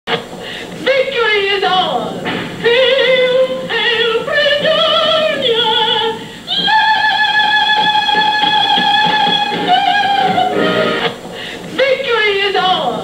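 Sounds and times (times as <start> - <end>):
woman singing operatic style: 0.7 - 13.0.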